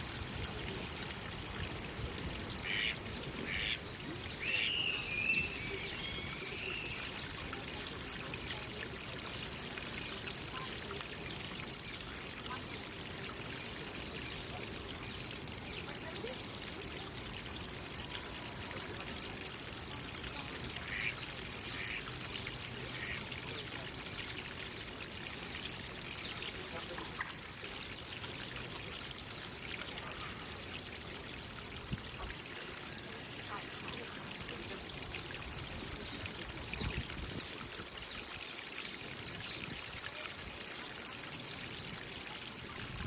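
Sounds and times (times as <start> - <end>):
water trickling into pond: 0.0 - 43.0.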